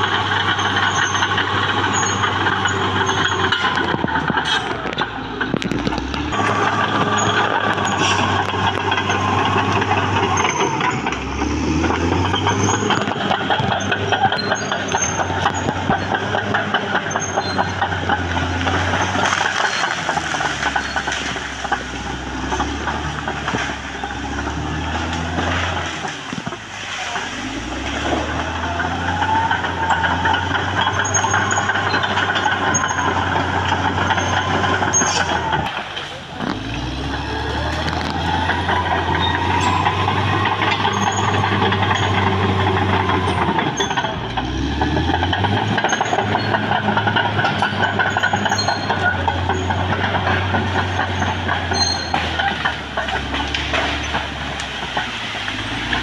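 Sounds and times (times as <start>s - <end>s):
dozer diesel engine under load: 0.0s - 56.0s
tracks clattering: 0.0s - 56.0s.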